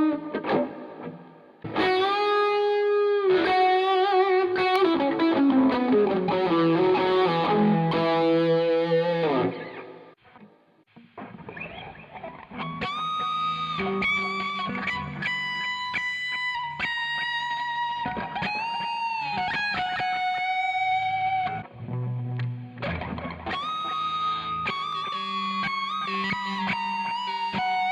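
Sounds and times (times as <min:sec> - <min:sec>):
electric guitar lead line: 0:00.0 - 0:27.9.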